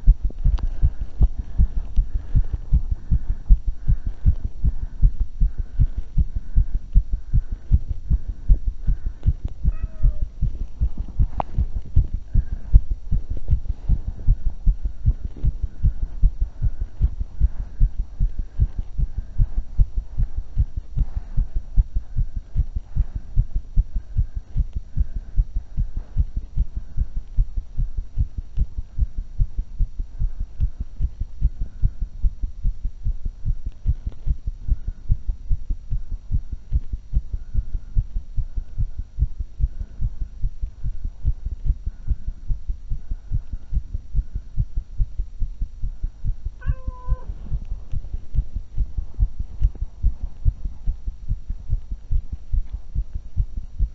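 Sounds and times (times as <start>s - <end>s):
fast heartbeat: 0.0s - 53.9s.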